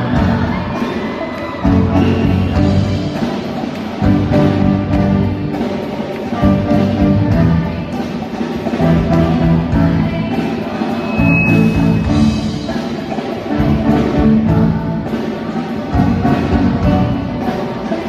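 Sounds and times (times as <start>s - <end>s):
orchestra playing pop song: 0.0s - 18.0s.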